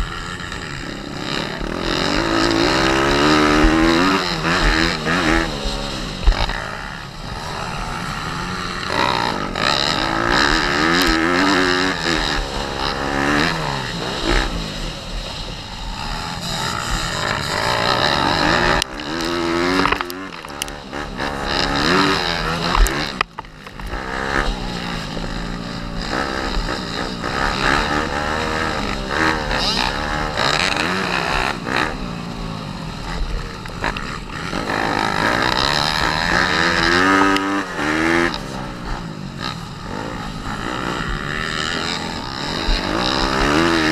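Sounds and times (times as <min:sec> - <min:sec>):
pit bike engine revving: 0:00.0 - 0:43.9.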